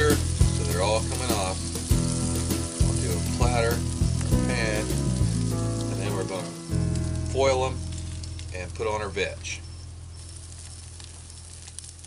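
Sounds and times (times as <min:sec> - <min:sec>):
background music with bass line: 0:00.0 - 0:09.7
skewers sizzling on grill: 0:00.0 - 0:12.0.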